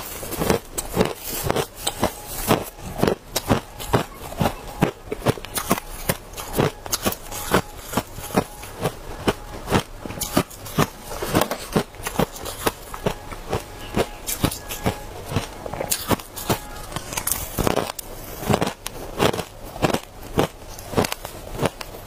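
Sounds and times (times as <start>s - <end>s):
chewing crushed ice: 0.0s - 22.0s.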